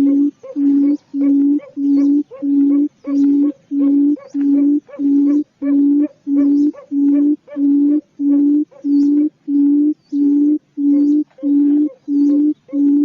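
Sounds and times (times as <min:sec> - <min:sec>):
quail hooting call: 0:00.0 - 0:13.0.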